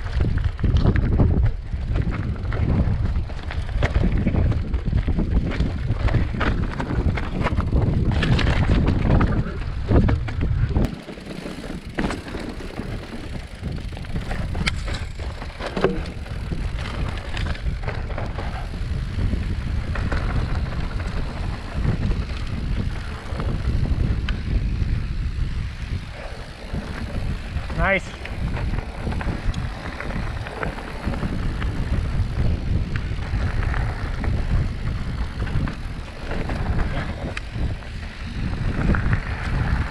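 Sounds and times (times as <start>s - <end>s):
wind on microphone: 0.0s - 11.0s, 11.6s - 39.9s
bike clicks and knocks: 0.0s - 39.9s
bike tyres rumbling over stones: 0.0s - 39.9s.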